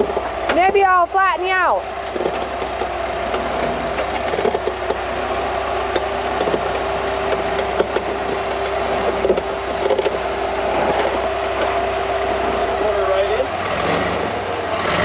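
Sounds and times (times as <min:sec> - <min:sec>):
buggy engine running: 0:00.0 - 0:15.0
steady whine: 0:00.0 - 0:15.0
tires clicking on rock: 0:00.0 - 0:15.0.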